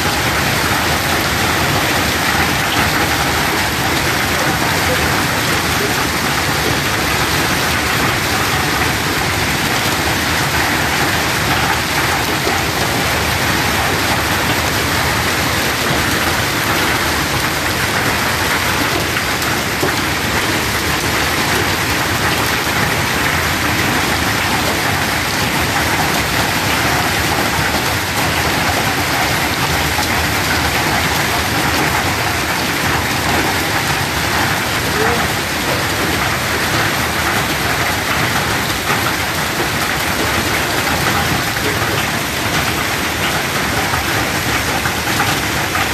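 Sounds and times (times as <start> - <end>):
hail and rain on street: 0.0 - 45.9.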